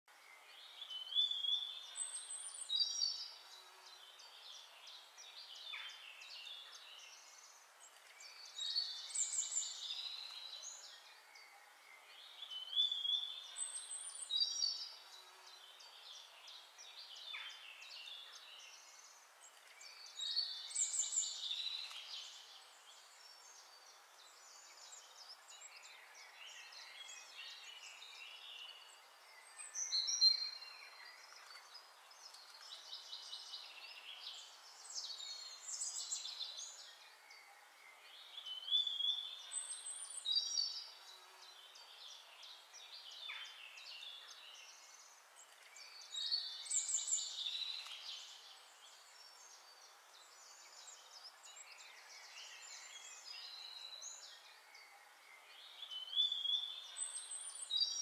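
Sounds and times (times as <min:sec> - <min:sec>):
birds chirping and trilling: 0:00.1 - 0:58.0
faint steady hiss: 0:00.1 - 0:58.0.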